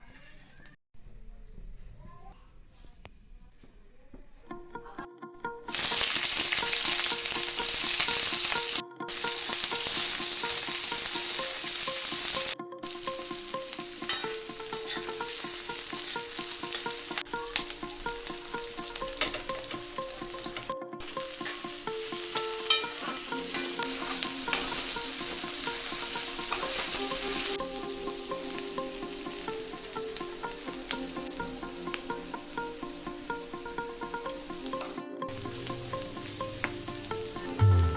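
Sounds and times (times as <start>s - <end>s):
food sizzling in hot oil: 5.7s - 37.9s.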